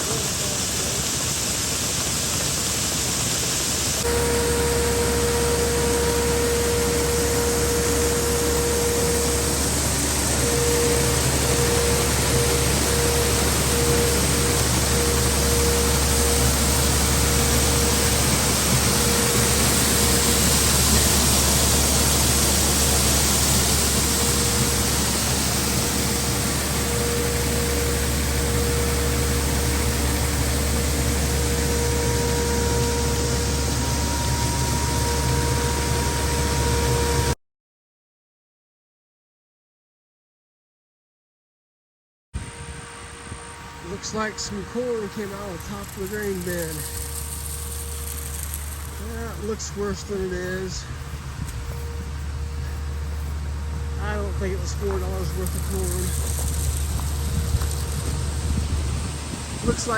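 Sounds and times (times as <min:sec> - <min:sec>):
farm machinery running: 0:00.0 - 0:37.4, 0:42.4 - 0:59.9
faint whine: 0:03.8 - 0:37.4, 0:42.4 - 0:59.9.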